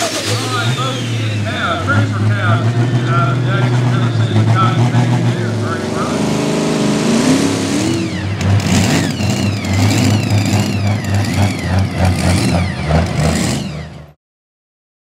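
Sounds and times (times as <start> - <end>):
diesel engine revving hard: 0.0 - 14.2.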